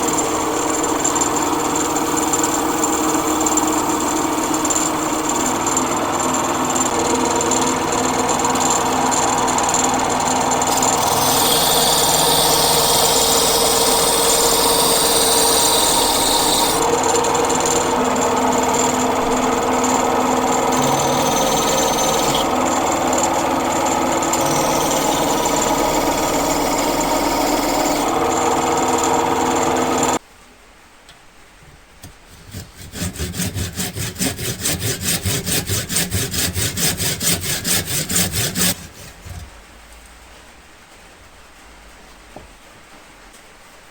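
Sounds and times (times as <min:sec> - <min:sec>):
turning tool cutting wood hiss: 0:00.0 - 0:30.2, 0:32.0 - 0:39.5
wood lathe running: 0:00.0 - 0:30.2, 0:32.3 - 0:39.5.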